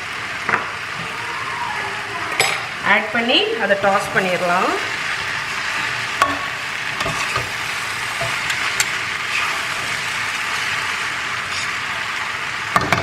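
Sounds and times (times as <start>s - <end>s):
noodles sizzling in a wok: 0.0s - 13.0s.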